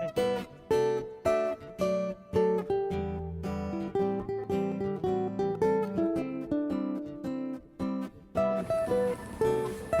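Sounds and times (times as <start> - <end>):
acoustic guitar picking melody: 0.0 - 10.0.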